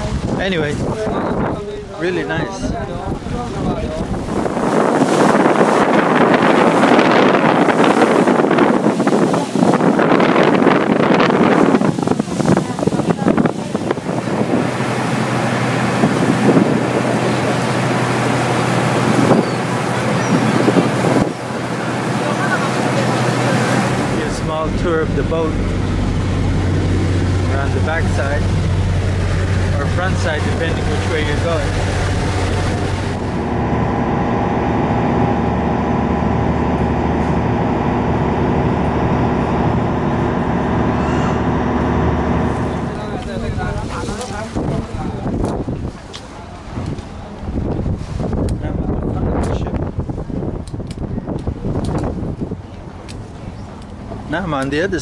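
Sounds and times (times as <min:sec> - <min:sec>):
boat engine hum: 0:00.0 - 0:55.0
water rushing in wake: 0:00.0 - 0:55.0
wind buffeting microphone: 0:00.0 - 0:55.0.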